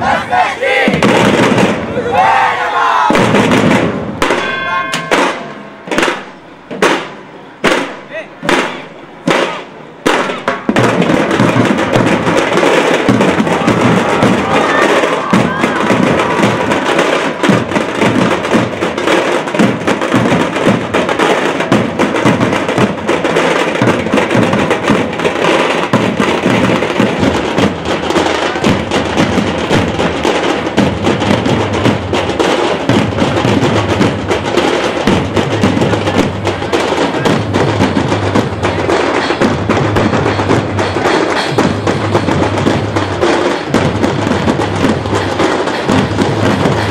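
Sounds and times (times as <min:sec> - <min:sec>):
rapid tasha drum strokes: 0:00.0 - 0:46.9
deep dhol drum beat: 0:00.8 - 0:01.9, 0:03.1 - 0:07.0, 0:09.3 - 0:46.9.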